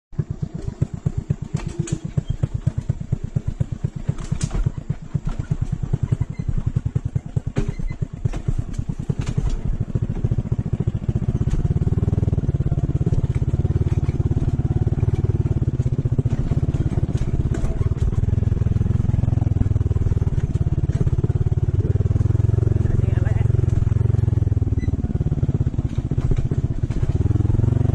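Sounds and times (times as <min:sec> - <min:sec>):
motorcycle engine running: 0:00.2 - 0:27.9.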